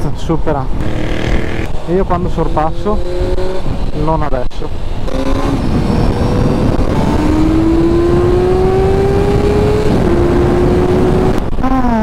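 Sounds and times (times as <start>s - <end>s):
wind rush on microphone: 0.0s - 12.0s
motorcycle engine accelerating: 0.8s - 12.0s.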